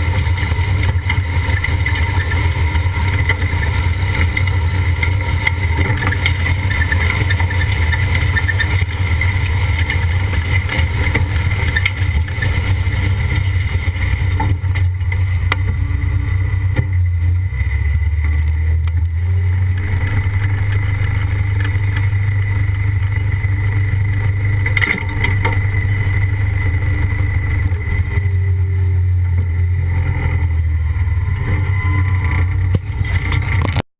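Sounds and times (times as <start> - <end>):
tractor engine under load: 0.0 - 33.9.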